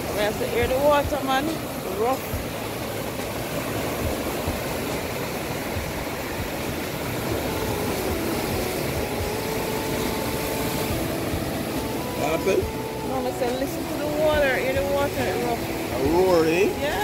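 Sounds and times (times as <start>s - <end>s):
waves breaking on beach: 0.0s - 17.0s
wind rumbling on microphone: 0.0s - 17.0s.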